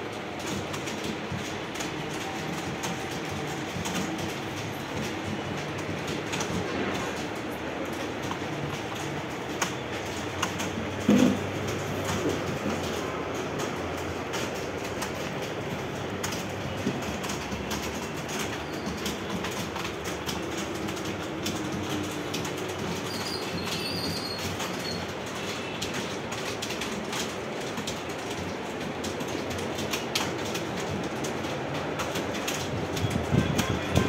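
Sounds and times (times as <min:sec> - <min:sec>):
keyboards clattering: 0:00.0 - 0:34.0.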